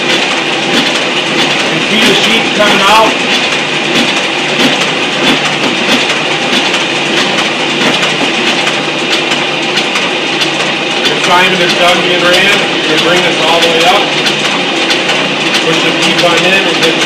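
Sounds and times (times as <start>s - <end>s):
printing press running: 0.0s - 17.0s
repeating machine clack: 0.0s - 17.0s
vacuum pump running: 0.0s - 17.0s.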